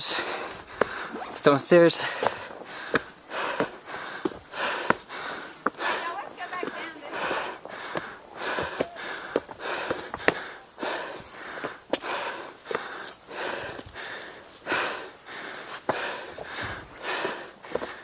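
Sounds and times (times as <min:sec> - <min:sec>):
heavy fast breathing: 0:00.0 - 0:18.0.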